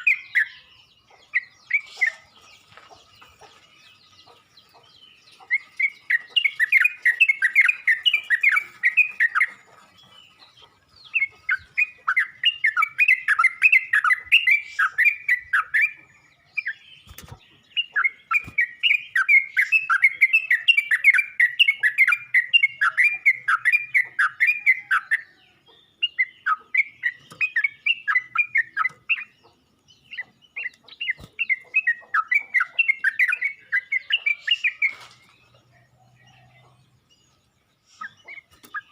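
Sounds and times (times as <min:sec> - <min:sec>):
bird chirping rapidly: 0:00.0 - 0:38.9.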